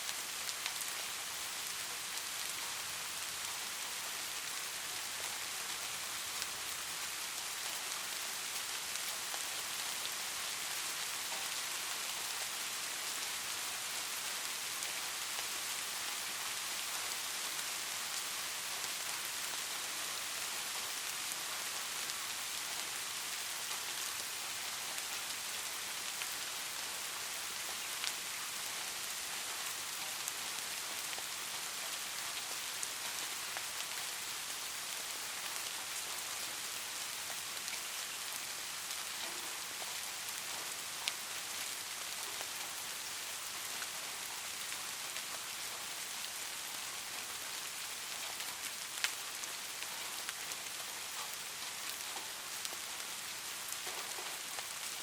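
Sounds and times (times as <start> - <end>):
light rain hiss: 0.0 - 55.0.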